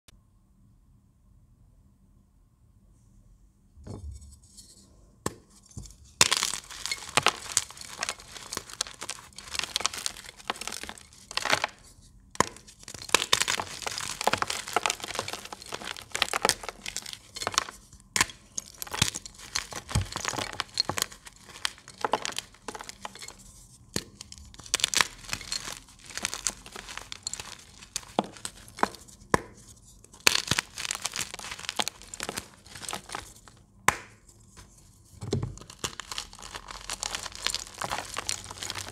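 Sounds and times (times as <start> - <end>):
chalk snapping and crumbling: 5.3 - 38.9.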